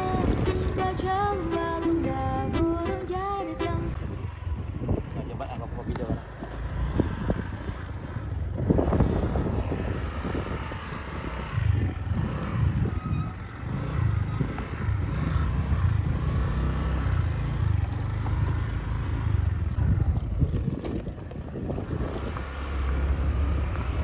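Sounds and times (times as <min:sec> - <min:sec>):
vehicle on dirt track: 0:00.0 - 0:24.0
wind rumbling on microphone: 0:00.0 - 0:24.0.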